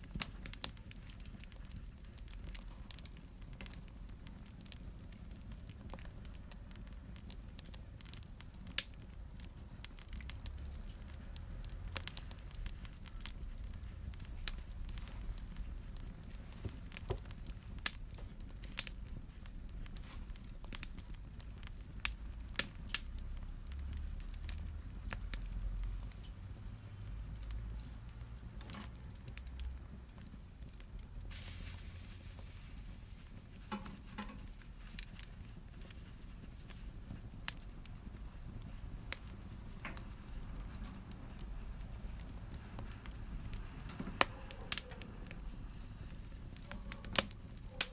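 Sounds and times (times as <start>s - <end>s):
fire crackling and popping: 0.0s - 47.9s
low rumble of flame: 0.0s - 47.9s.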